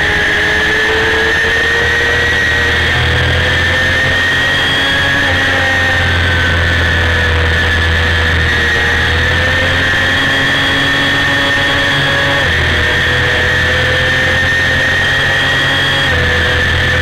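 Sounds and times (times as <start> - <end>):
motorcycle engine at high revs: 0.0 - 17.0.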